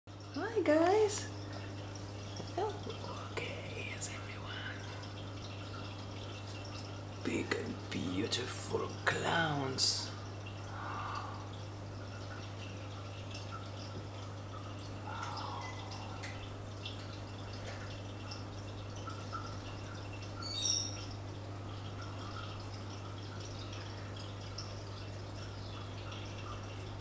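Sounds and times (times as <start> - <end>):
filter pump humming: 0.1 - 27.0
water dripping and trickling: 0.1 - 27.0.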